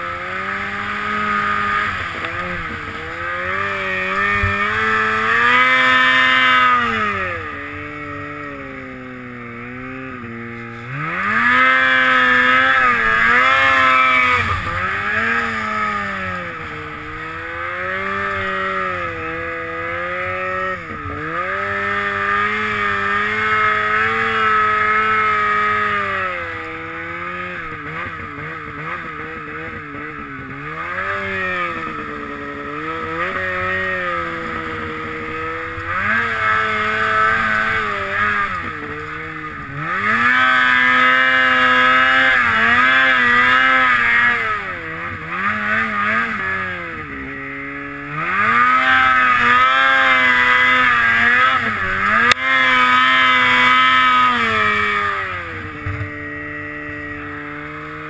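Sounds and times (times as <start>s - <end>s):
snowmobile engine: 0.0s - 58.0s.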